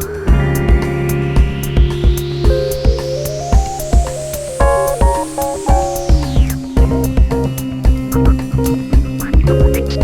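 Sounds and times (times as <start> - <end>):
kick drum and hi-hat beat: 0.0 - 10.0.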